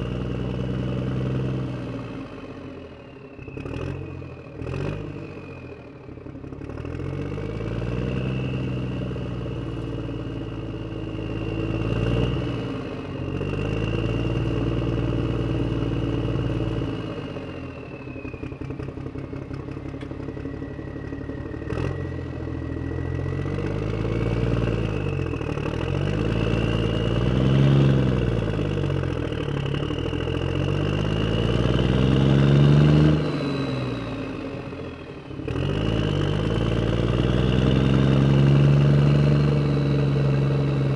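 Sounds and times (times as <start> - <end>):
simulated truck engine revving: 0.0 - 40.9.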